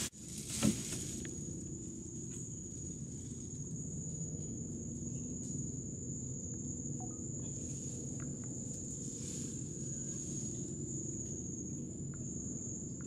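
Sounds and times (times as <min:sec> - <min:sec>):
insects whining: 0:00.0 - 0:13.0
low steady rumble: 0:00.0 - 0:13.0.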